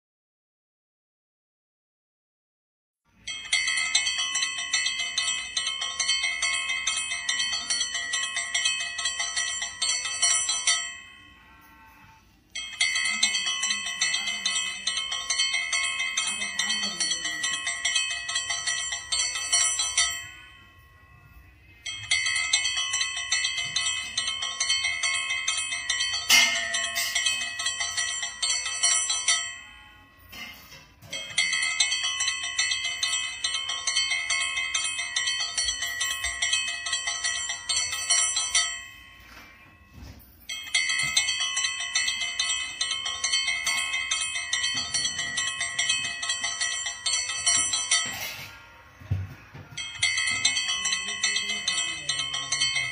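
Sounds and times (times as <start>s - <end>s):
hand bell ringing: 3.3s - 48.6s, 49.7s - 52.9s.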